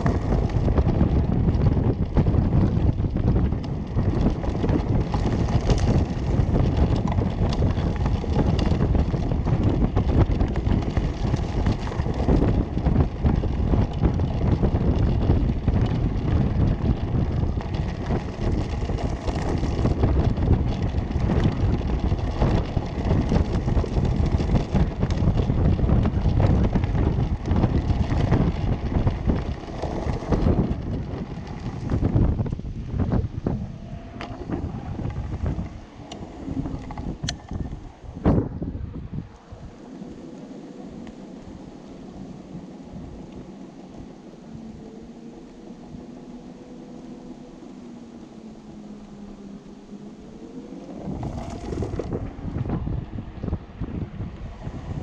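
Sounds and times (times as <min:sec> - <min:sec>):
go-kart rolling over gravel: 0:00.0 - 0:55.0
wheels and frame rattling: 0:00.0 - 0:55.0
wind on microphone: 0:00.0 - 0:55.0.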